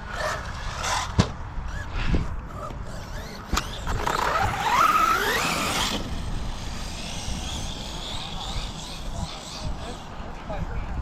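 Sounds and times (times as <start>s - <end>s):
rc car motor whining: 0.1s - 10.4s.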